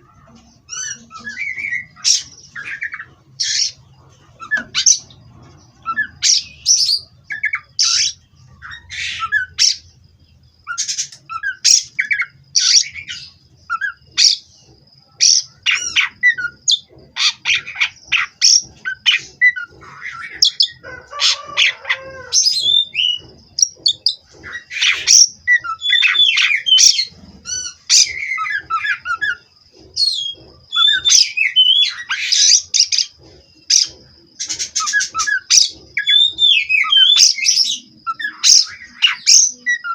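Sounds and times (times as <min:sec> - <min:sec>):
bird singing chirps and whistles: 0:00.7 - 0:03.8, 0:05.8 - 0:09.9, 0:10.6 - 0:39.9.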